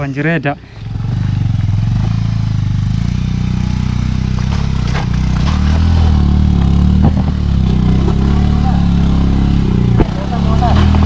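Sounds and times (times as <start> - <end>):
motorcycle engine under load: 0.0 - 11.0.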